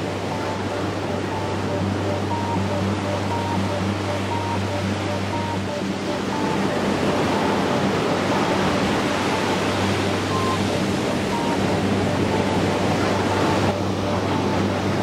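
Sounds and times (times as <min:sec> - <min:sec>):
ocean surf washing onto beach: 0:00.0 - 0:15.0
soft background music drone: 0:00.0 - 0:15.0.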